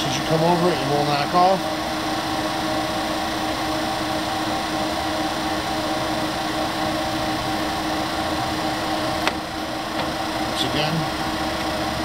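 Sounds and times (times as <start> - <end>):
lathe running with mechanical hum: 0.0 - 12.0.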